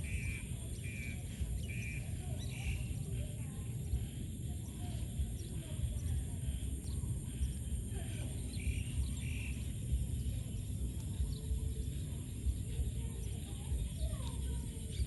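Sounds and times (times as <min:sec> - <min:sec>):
faint bird chirps: 0:00.0 - 0:15.0
steady low rumble: 0:00.0 - 0:15.0.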